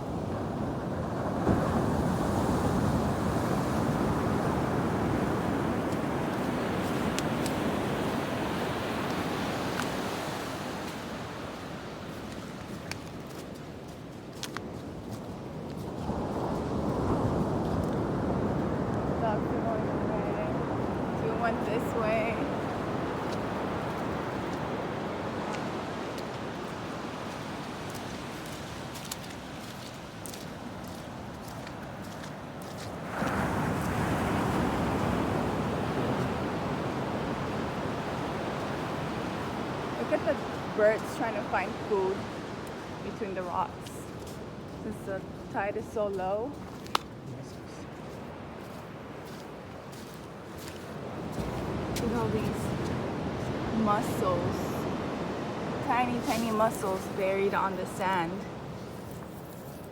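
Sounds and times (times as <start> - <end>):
ocean wave breaking on beach: 0.0 - 12.7, 15.8 - 58.8.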